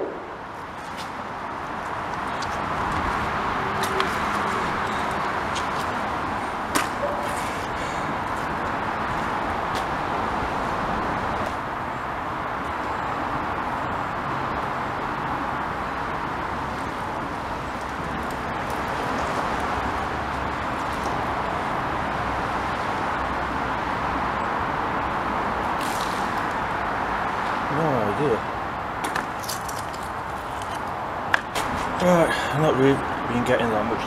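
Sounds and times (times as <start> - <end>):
road traffic on bridge: 0.0 - 34.0.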